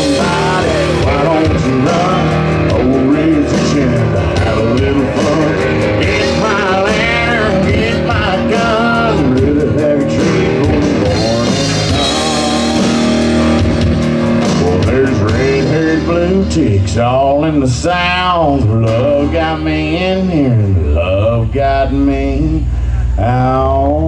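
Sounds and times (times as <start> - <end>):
drums with cymbal beat: 0.0 - 20.9
acoustic and electric guitars: 0.0 - 24.0
bass guitar: 0.0 - 24.0
country-rock band playing: 0.0 - 24.0.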